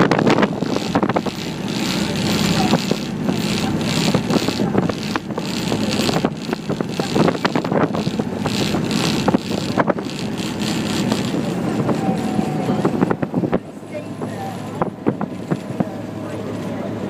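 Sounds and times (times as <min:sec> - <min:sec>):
boat engine running: 0:00.0 - 0:17.0
wind buffeting microphone: 0:00.0 - 0:17.0.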